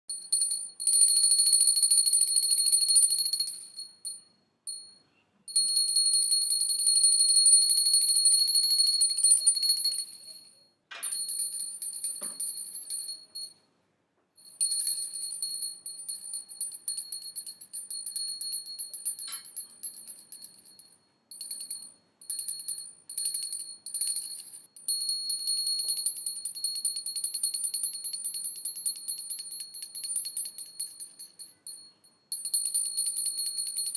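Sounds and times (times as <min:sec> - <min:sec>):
small hand bell ringing rapidly: 0:00.1 - 0:13.6, 0:14.4 - 0:33.9.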